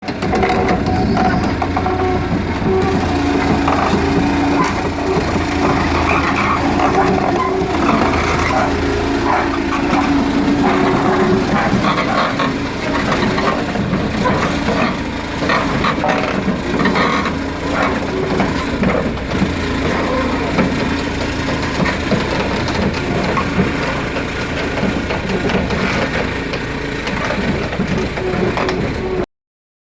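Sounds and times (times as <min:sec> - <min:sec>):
machine clanks and knocks: 0:00.0 - 0:29.2
excavator diesel engine running: 0:00.0 - 0:29.3.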